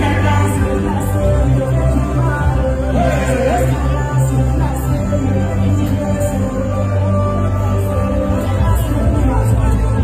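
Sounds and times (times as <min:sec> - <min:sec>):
loud music with heavy bass: 0:00.0 - 0:10.0.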